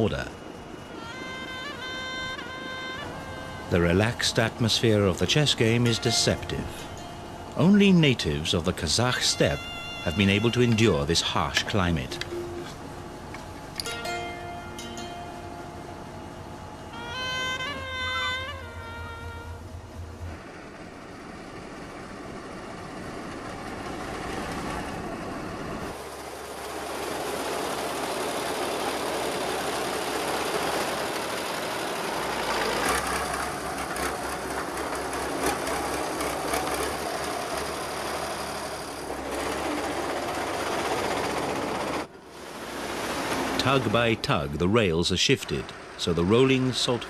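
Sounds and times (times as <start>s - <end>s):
train rumbling and clanking: 0.0s - 47.0s.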